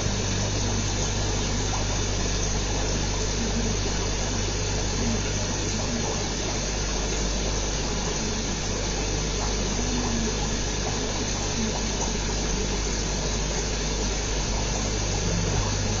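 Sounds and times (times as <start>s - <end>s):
bubbling water: 0.0s - 16.0s
low electric hum: 0.0s - 16.0s.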